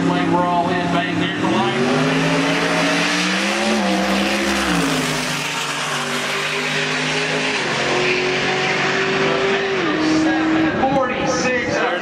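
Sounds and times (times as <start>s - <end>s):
racing car engine accelerating: 0.0s - 11.8s.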